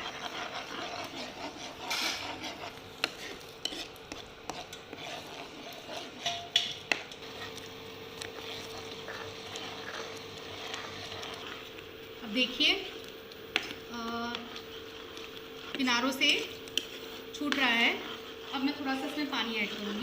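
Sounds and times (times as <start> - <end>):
low sizzle: 0.0 - 20.0
spoon stirring and scraping pan: 0.0 - 20.0.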